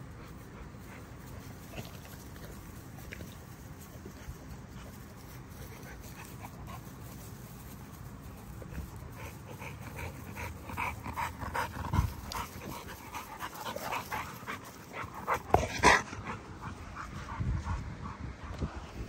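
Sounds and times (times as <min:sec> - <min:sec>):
puppies play-fighting: 0:00.0 - 0:18.6.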